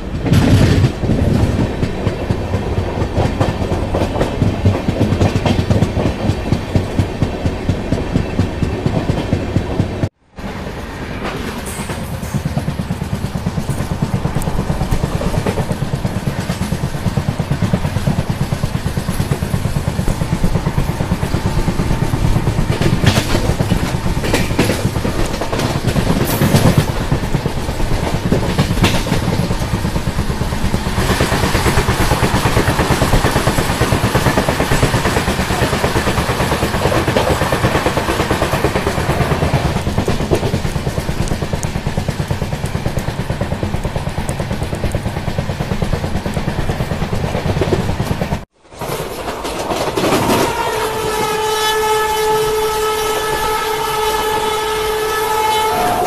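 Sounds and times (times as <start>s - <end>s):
train clanking over points: 0.0s - 56.0s
train wheels clacking on rails: 0.0s - 56.0s.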